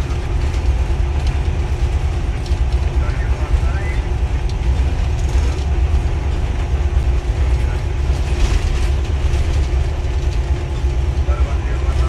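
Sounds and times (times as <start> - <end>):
cab rattling: 0.0 - 12.0
deep engine rumble: 0.0 - 12.0.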